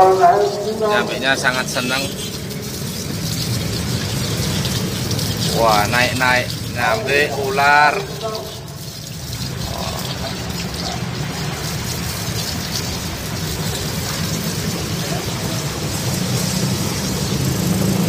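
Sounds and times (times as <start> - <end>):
water splashing: 0.0 - 18.0.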